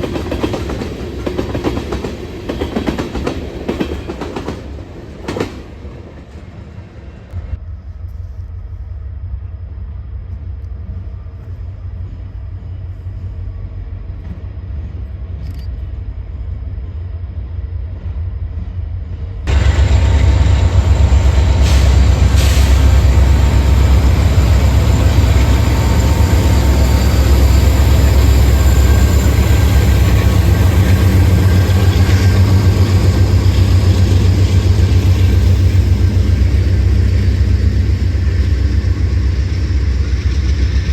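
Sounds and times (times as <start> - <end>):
train passing rumble: 0.0 - 40.9.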